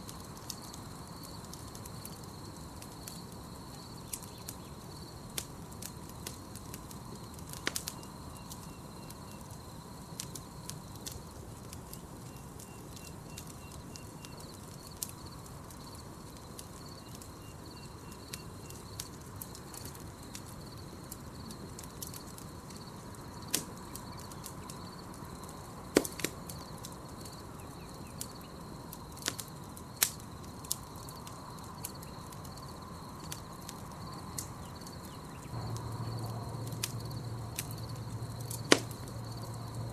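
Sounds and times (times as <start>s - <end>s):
burning wood popping: 0.0s - 39.9s
campfire crackling: 0.0s - 39.9s
insect trill: 0.0s - 39.9s.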